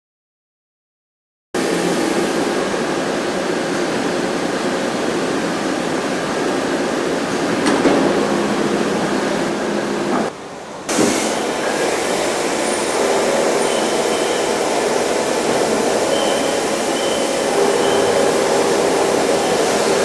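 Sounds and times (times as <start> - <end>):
machining center cutting metal: 1.6 - 10.3, 10.9 - 20.0.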